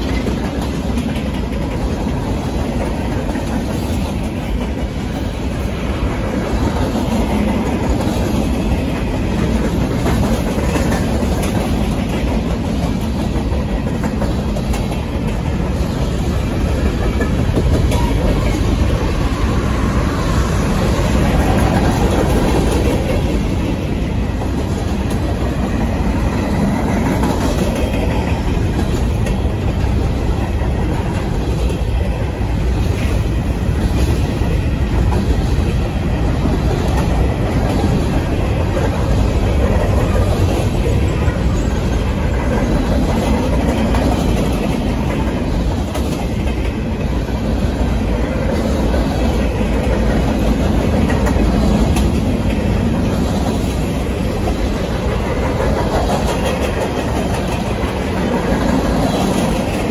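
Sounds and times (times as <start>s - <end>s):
clickety-clack of wheels over track: 0.0s - 59.9s
steel wheels rumbling on rail: 0.0s - 59.9s.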